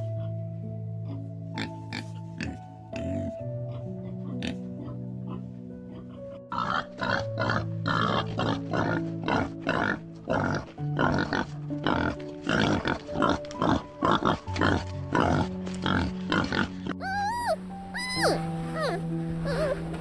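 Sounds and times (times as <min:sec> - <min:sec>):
background music: 0:00.0 - 0:20.0
boars grunting: 0:01.0 - 0:19.9.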